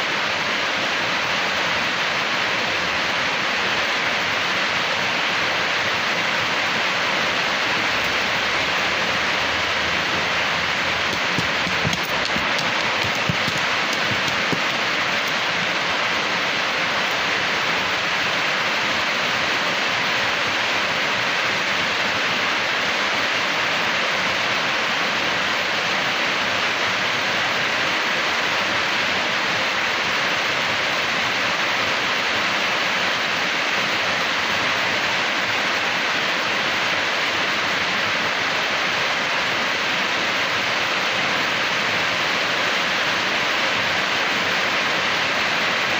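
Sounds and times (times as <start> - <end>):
water rushing: 0.0 - 45.9.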